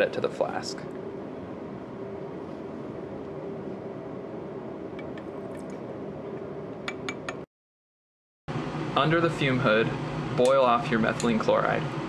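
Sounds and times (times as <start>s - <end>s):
air handling hum: 0.0s - 7.4s, 8.5s - 12.0s.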